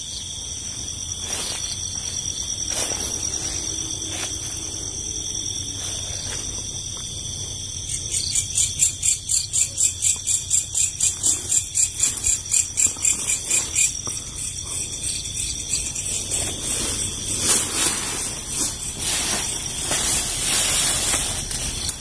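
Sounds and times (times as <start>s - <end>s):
high insect drone: 0.0s - 22.0s
insect chirping: 0.0s - 22.0s.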